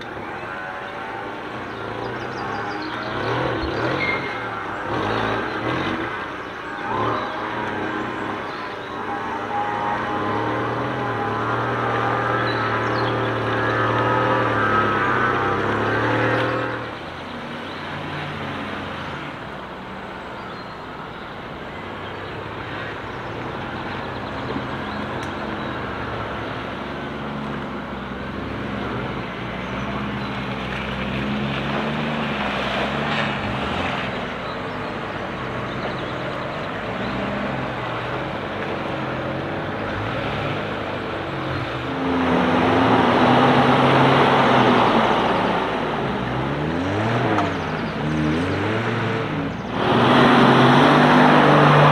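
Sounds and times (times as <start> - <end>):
off-road engines running: 0.0 - 51.9.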